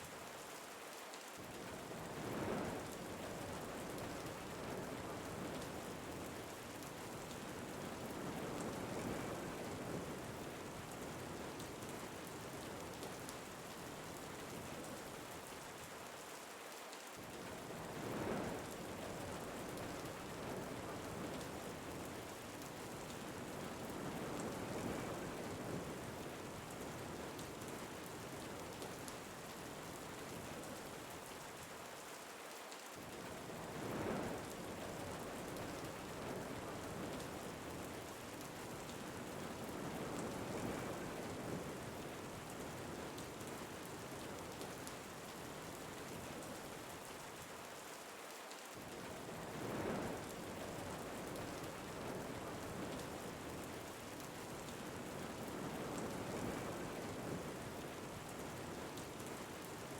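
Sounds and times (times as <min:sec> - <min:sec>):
rain falling on a surface: 0:00.0 - 0:59.9.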